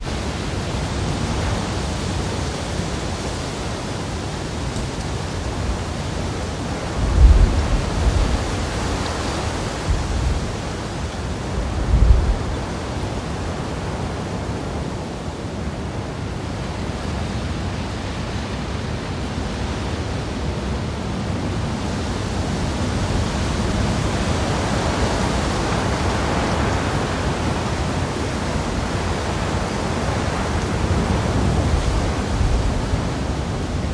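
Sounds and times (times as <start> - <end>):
wind blowing: 0.0 - 15.0, 17.9 - 33.9
wind gusts buffeting microphone: 0.0 - 33.9.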